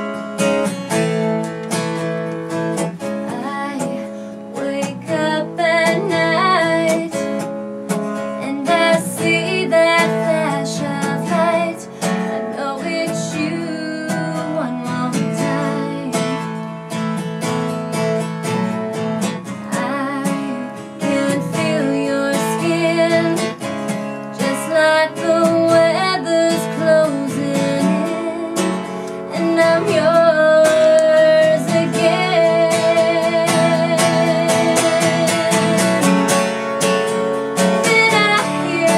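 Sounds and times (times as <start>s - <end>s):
woman singing country song: 0.0s - 38.9s.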